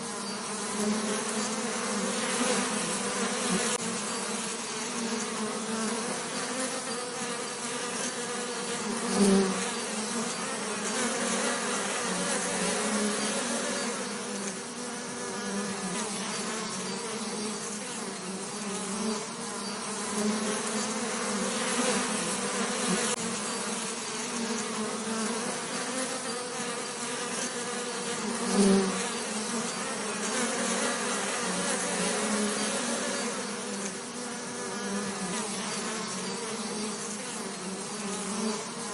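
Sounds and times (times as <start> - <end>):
bees buzzing: 0.0 - 38.9.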